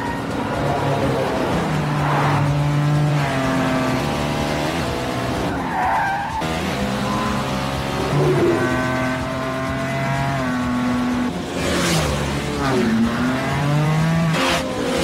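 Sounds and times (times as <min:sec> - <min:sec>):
motorcycle engines running hard: 0:00.0 - 0:05.6, 0:06.4 - 0:15.0.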